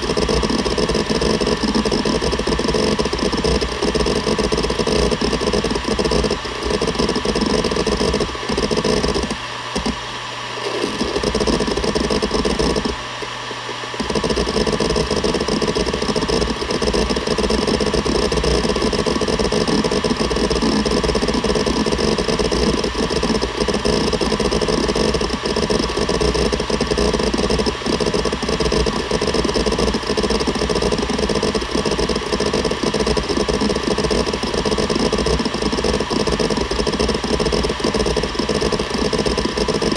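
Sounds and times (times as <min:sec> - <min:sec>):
hard drive seeking rattle: 0:00.0 - 0:39.9
hard drive spindle hum: 0:00.0 - 0:39.9.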